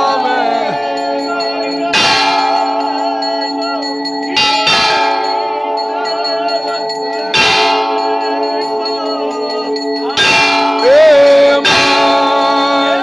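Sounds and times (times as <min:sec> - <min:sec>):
loud bell strikes: 0:00.0 - 0:13.0
temple bells ringing: 0:00.0 - 0:13.0
voices singing: 0:00.0 - 0:13.0.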